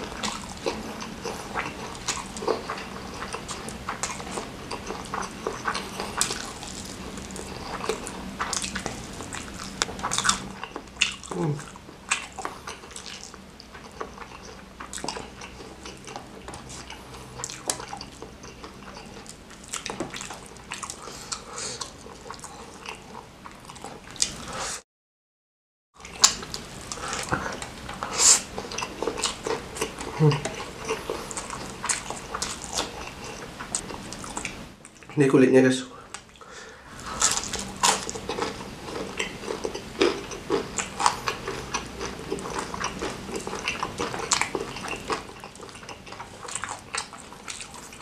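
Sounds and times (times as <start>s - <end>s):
wet chewing and lip-smacking: 0.0s - 24.4s, 26.0s - 35.1s, 36.1s - 48.0s.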